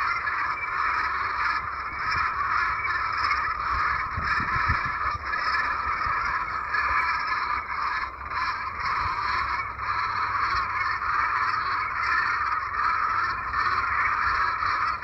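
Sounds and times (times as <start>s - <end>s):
flock of geese calling: 0.0s - 15.0s.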